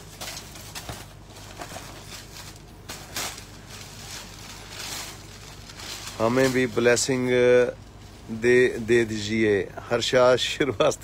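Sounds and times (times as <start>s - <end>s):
cloth and plastic rustling: 0.0s - 9.3s
faint steady hum: 0.0s - 11.0s.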